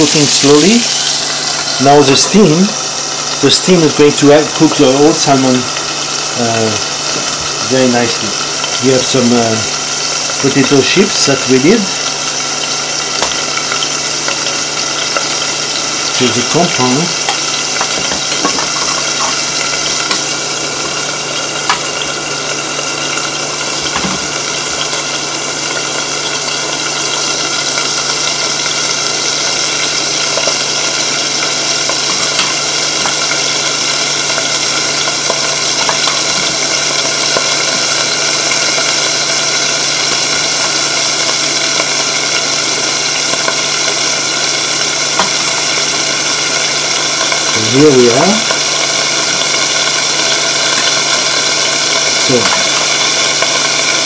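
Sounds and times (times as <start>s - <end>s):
fish sizzling in a pan: 0.0s - 54.0s.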